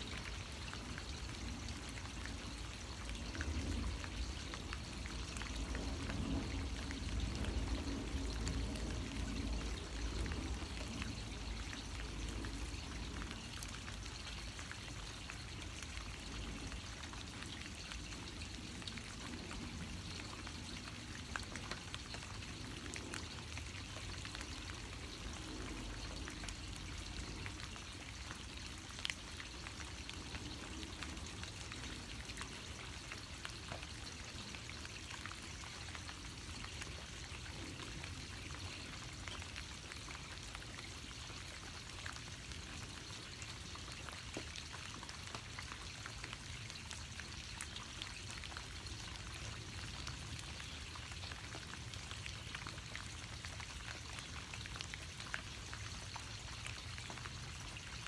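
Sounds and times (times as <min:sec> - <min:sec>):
raindrop ticks: 0:00.0 - 0:58.0
steady rain hiss: 0:00.0 - 0:58.0.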